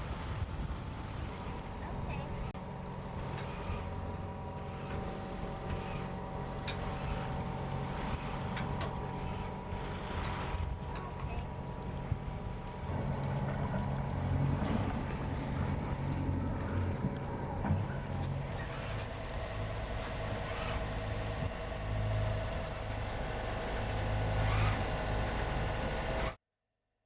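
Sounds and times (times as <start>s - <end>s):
water noise: 0.0s - 26.4s
wind: 0.0s - 26.4s
low drone: 1.2s - 26.4s.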